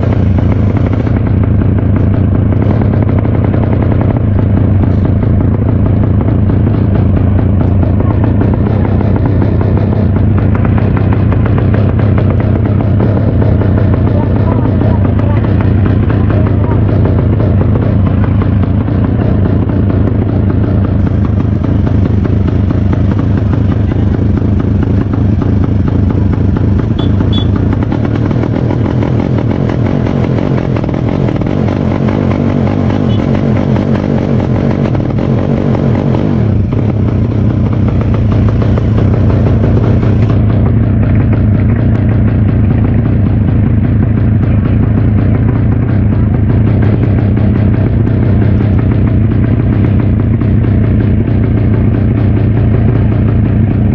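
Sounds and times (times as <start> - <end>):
motorcycle engines running loudly: 0.0 - 53.9.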